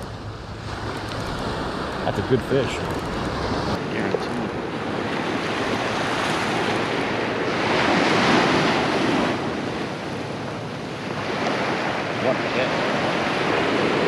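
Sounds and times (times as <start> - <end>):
surf washing on sandy beach: 0.0 - 14.0
wind on microphone: 0.0 - 14.0.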